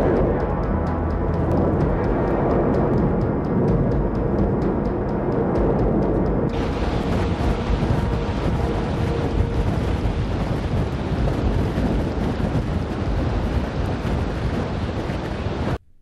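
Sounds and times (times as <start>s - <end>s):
lava fountain deep rumbling rush: 0.0s - 15.8s.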